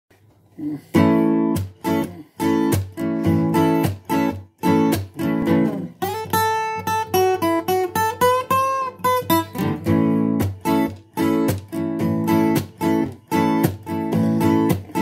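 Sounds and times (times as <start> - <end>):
acoustic guitar playing: 0.6 - 15.0.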